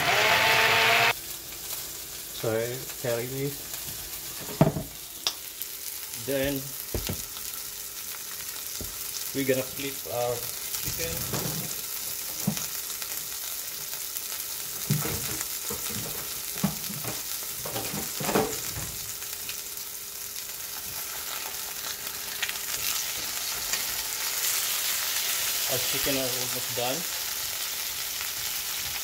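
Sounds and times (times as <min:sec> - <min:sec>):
chicken sizzling in a pan: 0:00.2 - 0:29.0.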